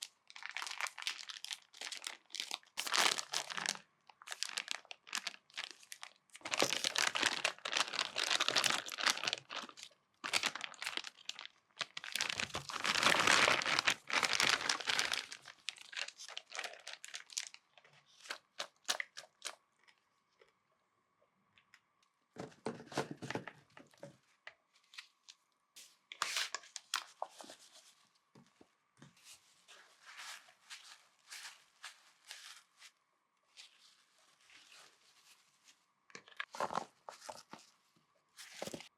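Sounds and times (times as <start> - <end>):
crinkling and rustling of food packaging: 0.0 - 20.7, 21.6 - 38.9.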